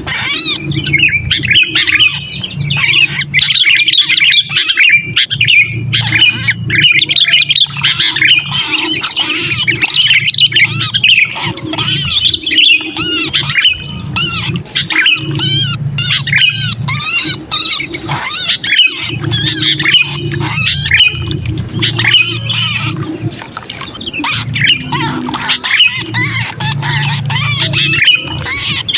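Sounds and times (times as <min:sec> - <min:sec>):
birds giving harsh distress calls: 0:00.0 - 0:28.9
low hum: 0:00.0 - 0:28.9.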